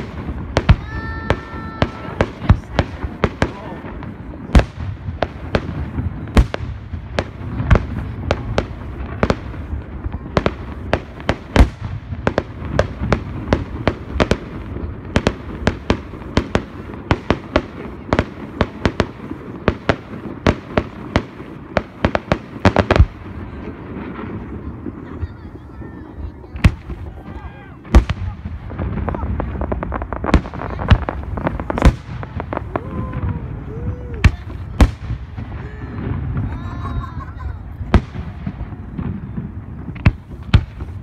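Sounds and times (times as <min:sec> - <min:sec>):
fireworks bangs: 0:00.0 - 0:41.0.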